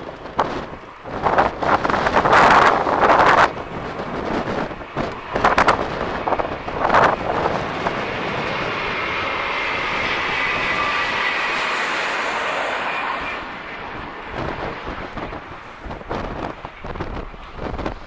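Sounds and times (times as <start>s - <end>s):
diesel train passing: 0.0s - 18.0s
wind gusts on microphone: 0.0s - 18.0s.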